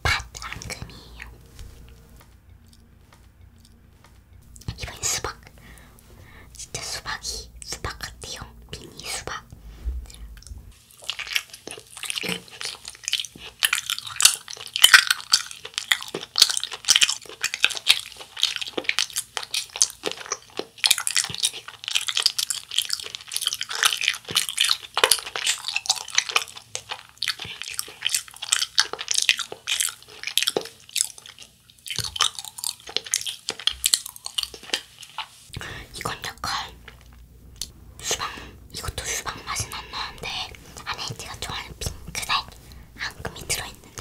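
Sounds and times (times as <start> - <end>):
chewing with mouth clicks: 0.0 - 9.0, 10.0 - 44.0.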